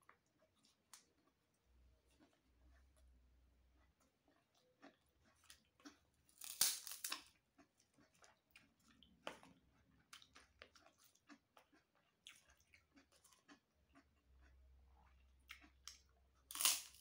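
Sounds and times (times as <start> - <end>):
crackers crunching and chewed: 0.0 - 17.0.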